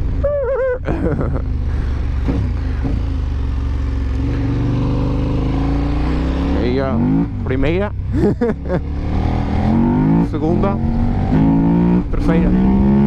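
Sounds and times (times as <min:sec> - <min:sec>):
motorcycle engine running and revving: 0:00.9 - 0:13.0.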